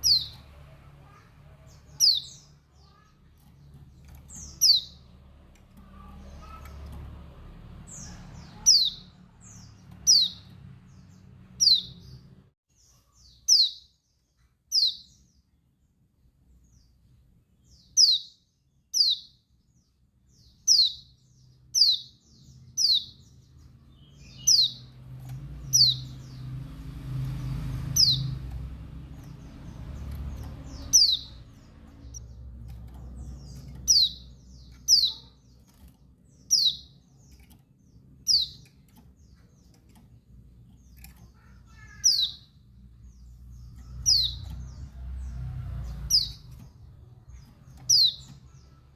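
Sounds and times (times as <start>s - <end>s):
bird chirping: 0.0s - 48.9s.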